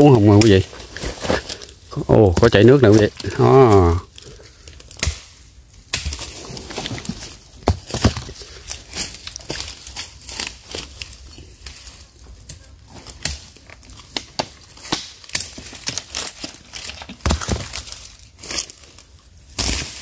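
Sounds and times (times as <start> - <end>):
crackling and rustling vine: 0.0 - 20.0.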